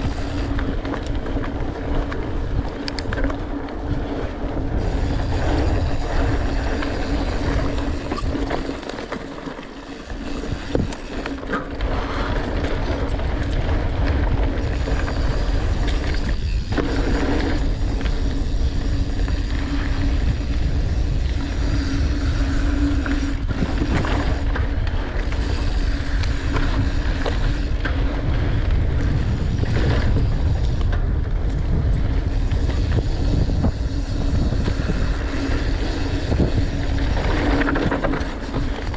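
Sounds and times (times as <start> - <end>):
bike knocking and rattling: 0.0 - 38.9
bike tyres on dirt trail: 0.0 - 38.9
wind buffeting microphone: 0.0 - 38.9.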